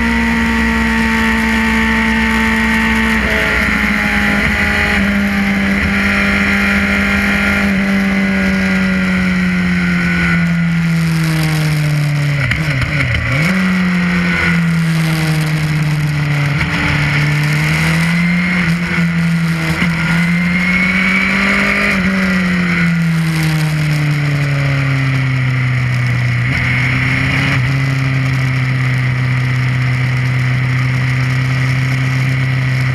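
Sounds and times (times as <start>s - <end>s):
motorcycle engine: 0.0s - 32.9s
wind and road noise: 0.0s - 32.9s.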